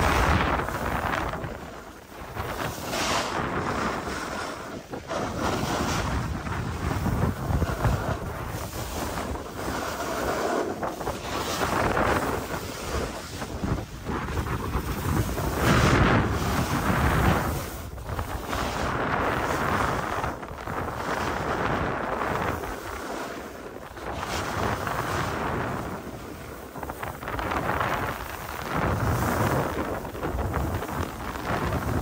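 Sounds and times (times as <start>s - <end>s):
skis scraping on snow: 0.0s - 32.0s
wind rushing over microphone: 0.0s - 32.0s.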